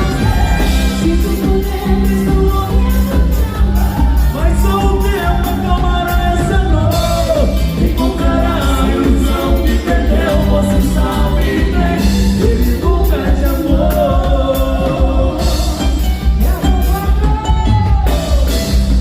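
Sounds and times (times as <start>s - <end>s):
drum and bass beat: 0.0s - 19.0s
person singing: 0.0s - 19.0s.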